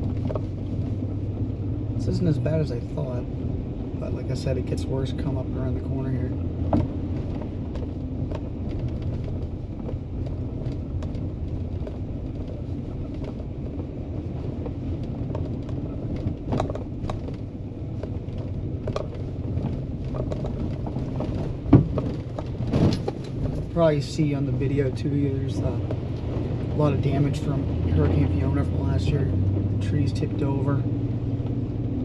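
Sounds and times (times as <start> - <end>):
vehicle engine running: 0.0 - 32.0
knocks and rattles from bumps: 5.1 - 31.6.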